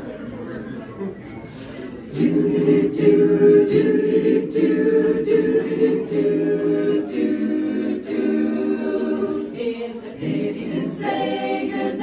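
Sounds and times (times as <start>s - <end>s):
barbershop chorus singing: 2.1s - 12.0s.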